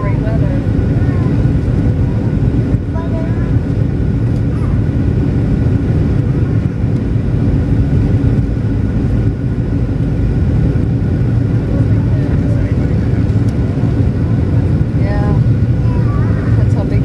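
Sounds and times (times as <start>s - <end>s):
jet engine rumble: 0.0s - 17.0s
rushing airflow: 0.0s - 17.0s.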